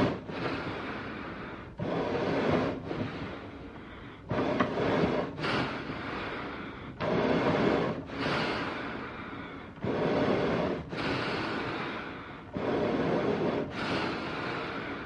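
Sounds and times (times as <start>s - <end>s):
heavy animal breathing: 0.0s - 15.0s.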